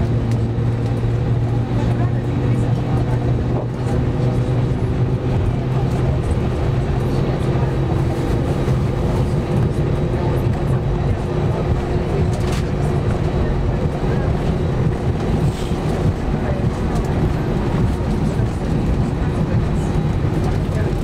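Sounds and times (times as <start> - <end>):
jet engines droning in cabin: 0.0 - 21.0.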